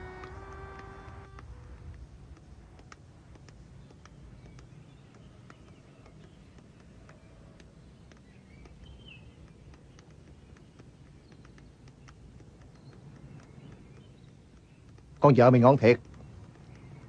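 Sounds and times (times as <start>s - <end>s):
low hum: 0.0s - 15.3s
faint clicks: 0.0s - 17.0s.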